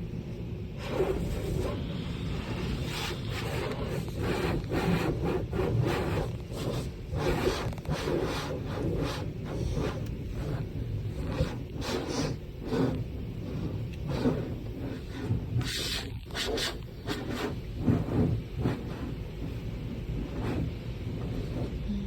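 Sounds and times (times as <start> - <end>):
car wash low rumble: 0.0 - 22.0.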